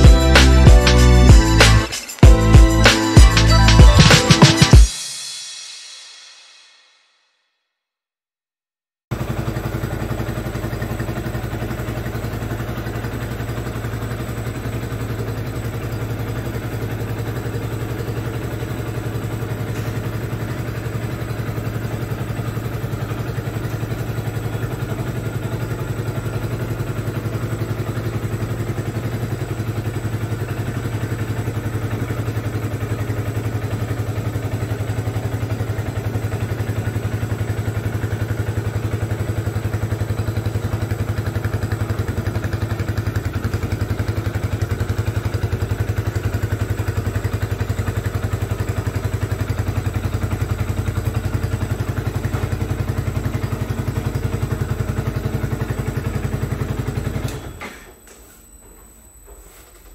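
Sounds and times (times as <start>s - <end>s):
motorcycle engine idling: 0.0s - 4.1s, 9.1s - 57.6s.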